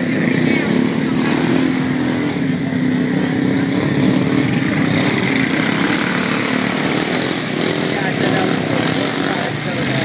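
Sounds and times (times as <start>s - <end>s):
atv engine at high revs: 0.0s - 10.0s.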